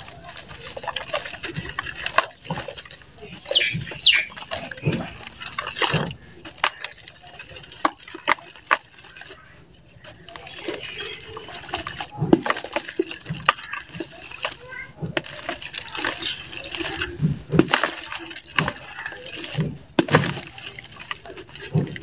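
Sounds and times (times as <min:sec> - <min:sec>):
grit pattering into water: 0:00.0 - 0:22.0.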